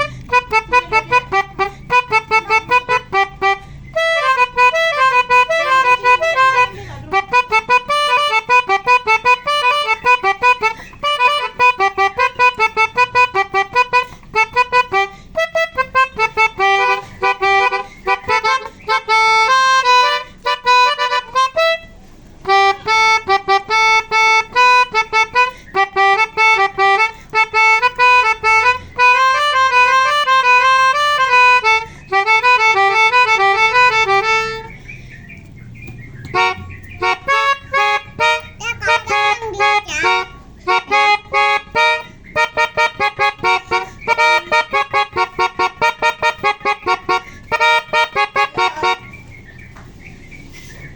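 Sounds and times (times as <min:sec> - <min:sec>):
multi-tone bus horn melody: 0:00.0 - 0:14.0, 0:14.6 - 0:34.7, 0:36.3 - 0:49.1.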